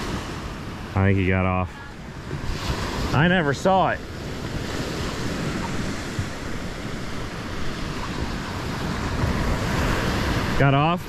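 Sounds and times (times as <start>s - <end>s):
surf washing onto beach: 0.0s - 11.0s
wind buffeting microphone: 0.0s - 11.0s.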